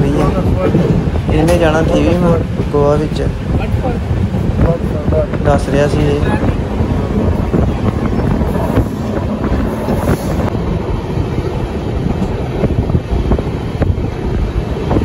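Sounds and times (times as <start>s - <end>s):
train rumble: 0.0s - 15.0s
wind buffeting microphone: 0.0s - 15.0s.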